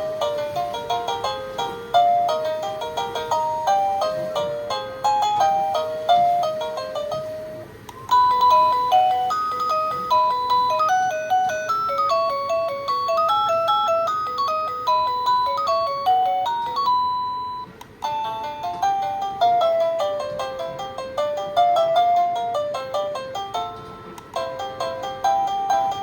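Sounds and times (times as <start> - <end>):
electronic doorbell chime melody: 0.0 - 26.0.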